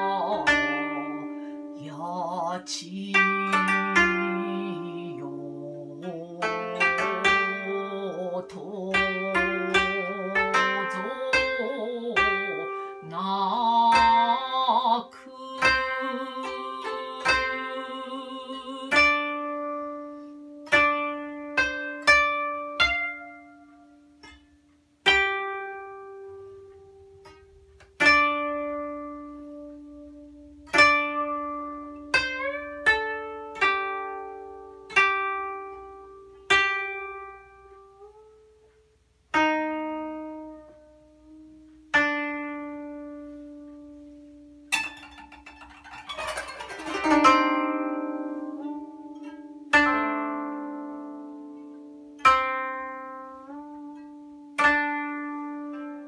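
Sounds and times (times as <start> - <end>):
koto plucked: 0.0 - 56.0.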